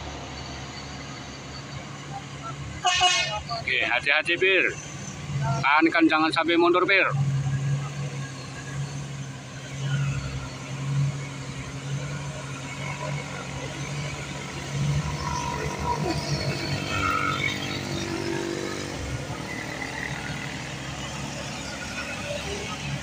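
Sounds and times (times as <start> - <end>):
passing traffic: 0.0 - 23.0
truck diesel engine droning: 0.0 - 23.0.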